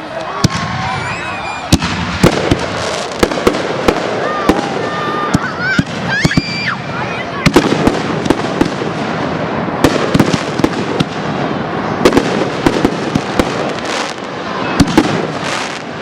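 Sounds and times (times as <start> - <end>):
fireworks bursting with bangs: 0.0 - 16.0
fireworks crackle: 0.0 - 16.0.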